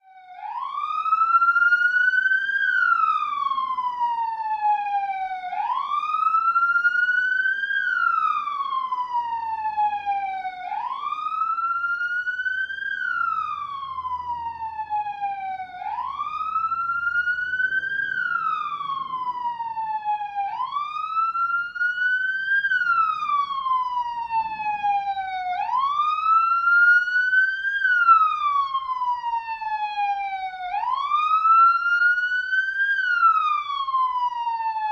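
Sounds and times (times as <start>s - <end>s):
police siren wailing: 0.0s - 34.9s.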